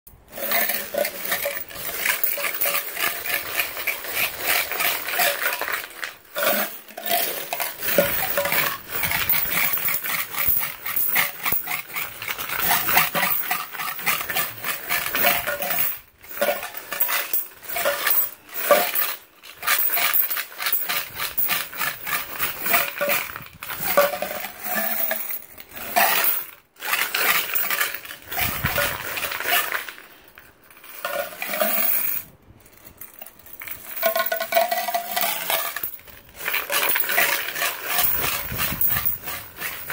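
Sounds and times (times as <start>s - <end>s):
coins rattling in tin can: 0.1s - 39.9s
coins spilling onto coins: 0.2s - 39.9s.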